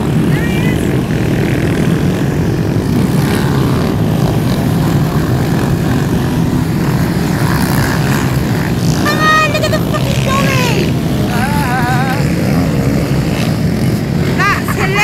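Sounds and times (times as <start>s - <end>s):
quad bike engines droning: 0.0s - 15.0s.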